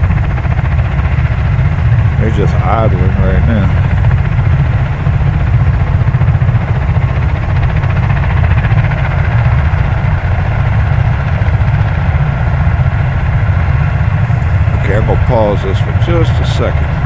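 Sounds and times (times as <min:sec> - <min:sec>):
fainter higher hum: 0:00.0 - 0:17.0
tiltrotor aircraft idling: 0:00.0 - 0:17.0.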